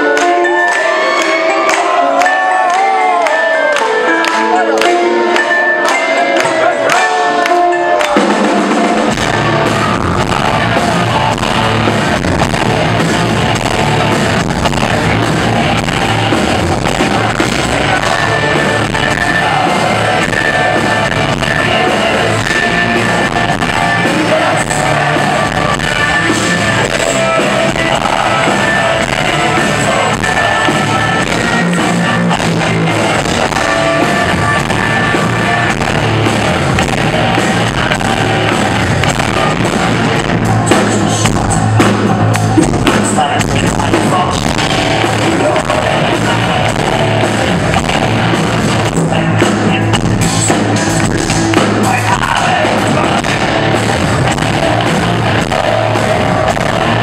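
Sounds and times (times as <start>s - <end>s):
distorted electric guitar: 0.0s - 57.0s
drums: 0.0s - 57.0s
man singing: 0.0s - 57.0s
bass: 6.9s - 57.0s.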